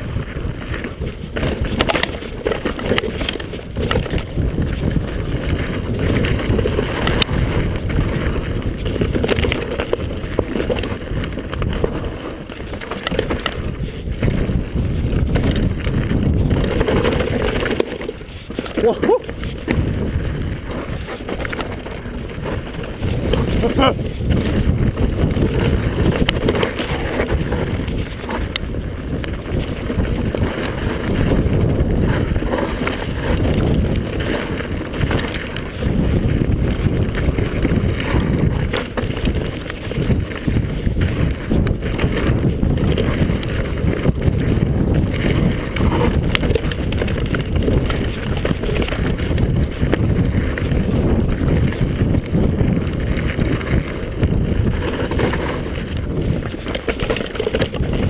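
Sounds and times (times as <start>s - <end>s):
bike knocking and rattling: 0.0s - 58.0s
bike tyres on dirt: 0.0s - 58.0s
wind buffeting microphone: 0.0s - 58.0s.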